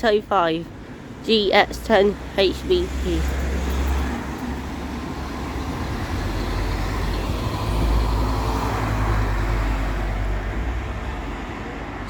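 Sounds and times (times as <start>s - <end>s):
bus engine rumbling: 0.0s - 12.0s
road traffic: 0.0s - 12.0s.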